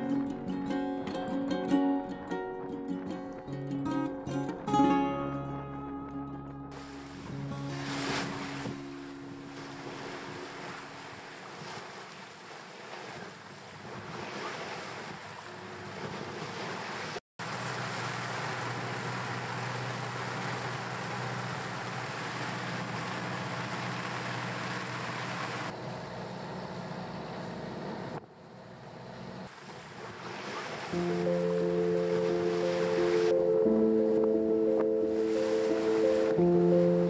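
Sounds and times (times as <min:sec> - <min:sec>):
waves: 0:00.0 - 0:05.0, 0:06.7 - 0:26.0, 0:29.4 - 0:37.0.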